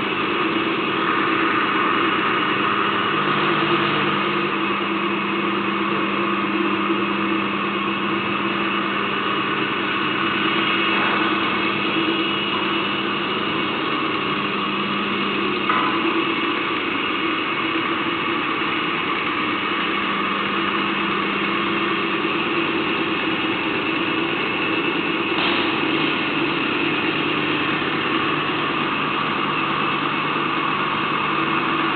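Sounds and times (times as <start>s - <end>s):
boring machine motor hum: 0.0s - 31.9s.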